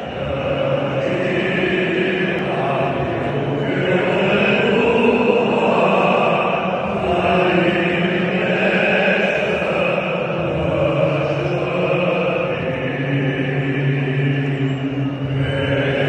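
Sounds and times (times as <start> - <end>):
stadium crowd singing: 0.0 - 16.0.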